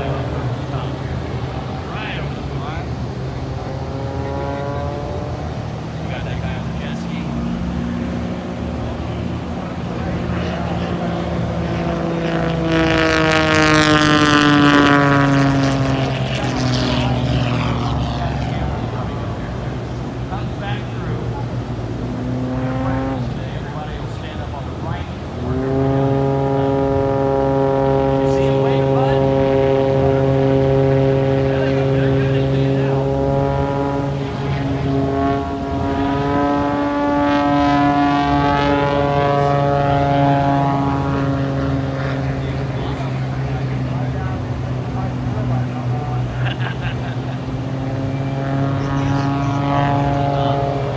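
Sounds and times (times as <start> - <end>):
propeller airplane engine passing: 0.0 - 50.9
steady low drone: 0.0 - 50.9.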